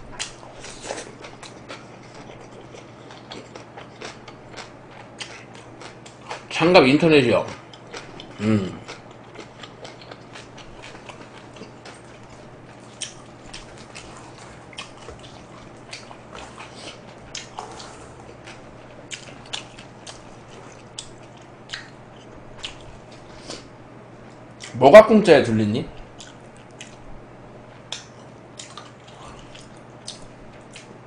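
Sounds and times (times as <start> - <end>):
chewing pizza: 0.0 - 23.7, 25.9 - 31.0.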